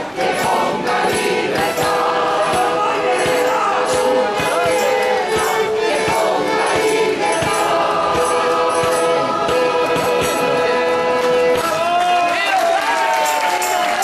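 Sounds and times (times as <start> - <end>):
choir singing: 0.0 - 11.9
orchestra playing melody: 0.0 - 12.0.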